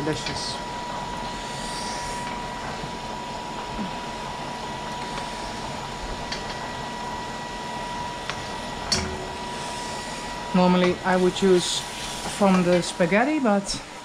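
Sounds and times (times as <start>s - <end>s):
cooker hood fan whirring: 0.0s - 14.0s
faint high whine: 0.0s - 14.0s
water boiling in a pot: 0.0s - 14.0s.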